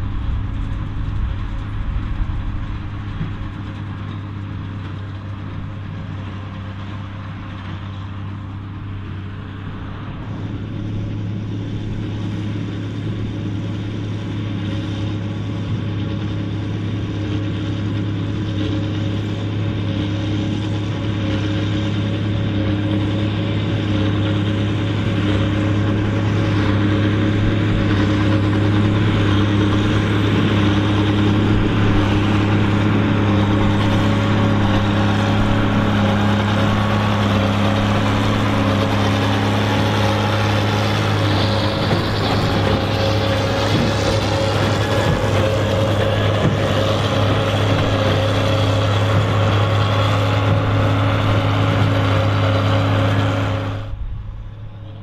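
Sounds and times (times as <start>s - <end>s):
baler working: 0.0s - 55.0s
tractor diesel engine running: 0.0s - 55.0s.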